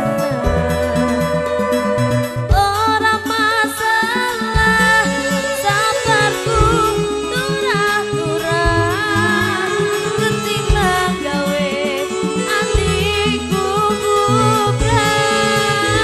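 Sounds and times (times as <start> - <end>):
bass: 0.0 - 16.0
electronic keyboard: 0.0 - 16.0
woman singing into microphone: 0.0 - 16.0.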